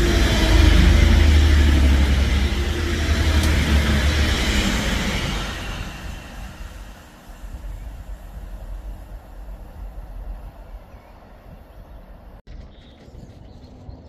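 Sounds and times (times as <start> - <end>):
rushing wheel and air noise: 0.0 - 12.4
diesel train engine hum: 0.0 - 14.0.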